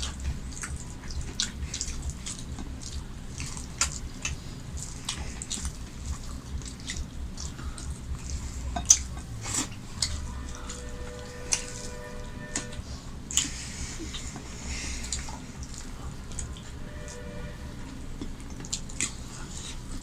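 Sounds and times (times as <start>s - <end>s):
person chewing food: 0.0s - 20.0s
steady low hum: 0.0s - 20.0s.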